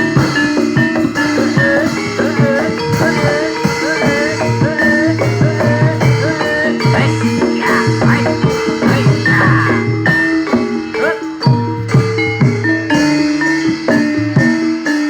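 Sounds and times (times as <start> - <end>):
pitch-bending melody: 0.0 - 13.9
held metallic notes: 0.0 - 15.0
rhythmic percussion: 0.0 - 15.0.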